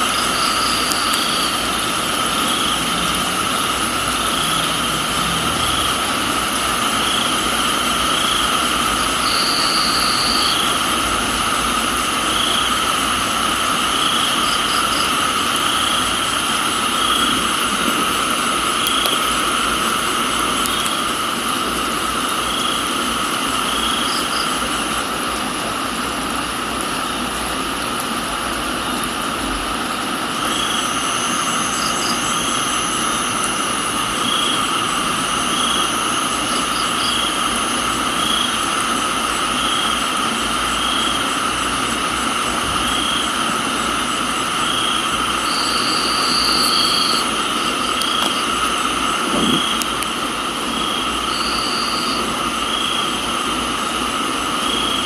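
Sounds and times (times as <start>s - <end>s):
crickets trilling: 0.0s - 55.0s
pulsing cricket chirp: 0.0s - 55.0s
steady rain: 0.0s - 55.0s.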